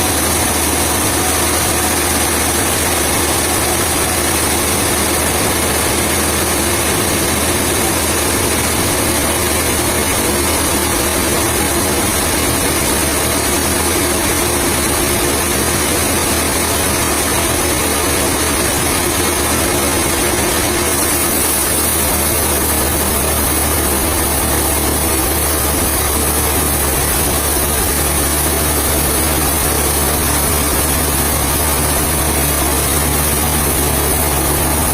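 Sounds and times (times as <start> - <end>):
heavy machinery engine droning: 0.0 - 34.9.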